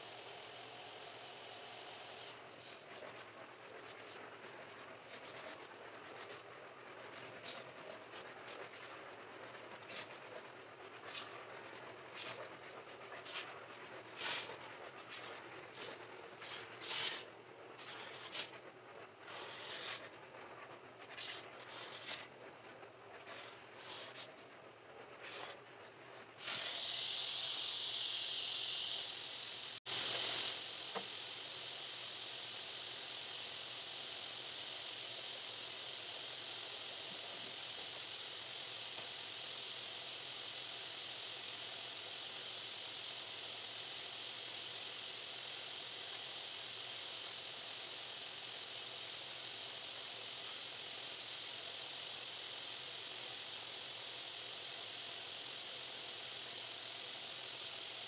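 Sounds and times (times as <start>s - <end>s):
air hissing through vacuum hose: 0.0s - 58.0s.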